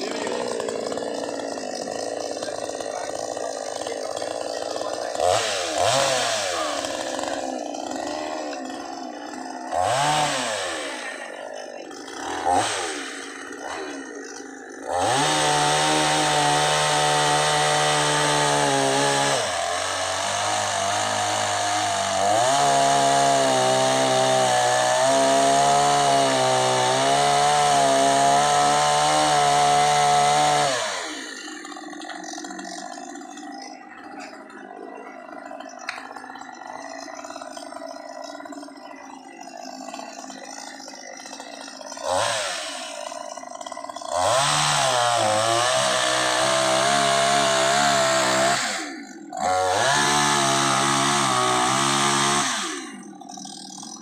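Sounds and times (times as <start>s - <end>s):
chainsaw revving and cutting log: 0.0s - 54.0s.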